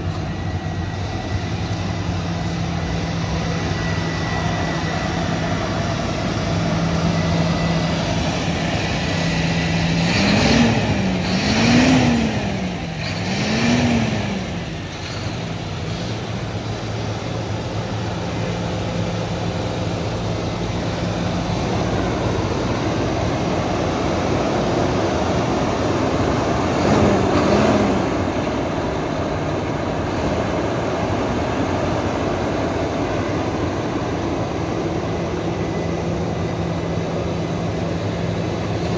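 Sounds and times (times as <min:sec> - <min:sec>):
diesel truck engine idling and revving: 0:00.0 - 0:38.9.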